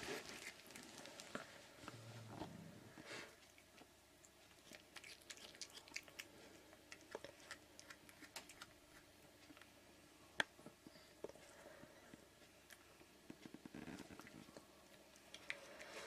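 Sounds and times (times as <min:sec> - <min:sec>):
cat chewing with crunching: 0:00.0 - 0:09.9, 0:11.2 - 0:16.0.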